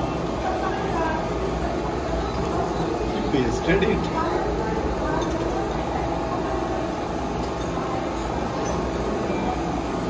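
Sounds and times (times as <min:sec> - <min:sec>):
restaurant background noise: 0:00.0 - 0:10.0.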